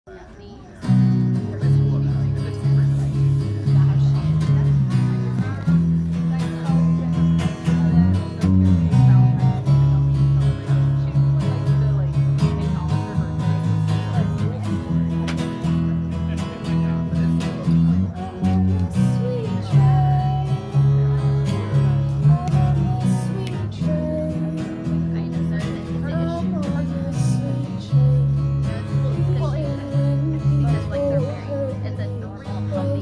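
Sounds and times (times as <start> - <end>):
strummed acoustic guitars: 0.8 - 33.0
low bass notes: 0.9 - 33.0.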